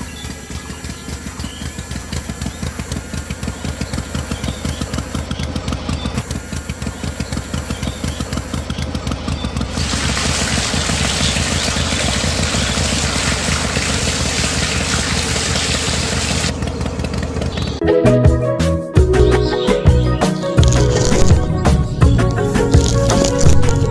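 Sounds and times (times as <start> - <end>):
small engine knocking: 0.0 - 17.8, 20.6 - 23.9.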